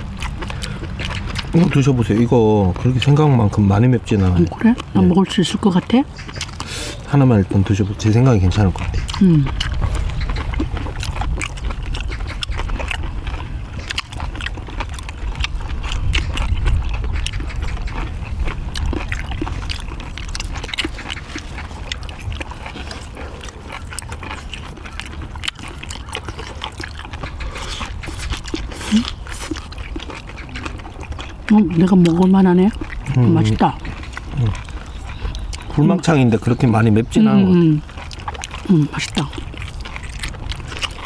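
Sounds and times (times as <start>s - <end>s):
steady low rumble: 0.0s - 41.0s
wet chewing and smacking: 0.0s - 41.0s.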